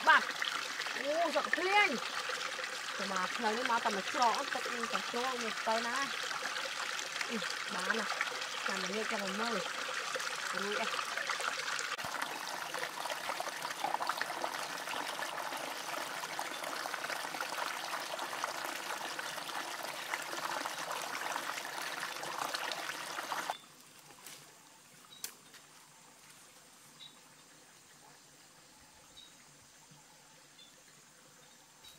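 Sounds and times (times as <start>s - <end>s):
water trickling over rocks: 0.0s - 31.9s.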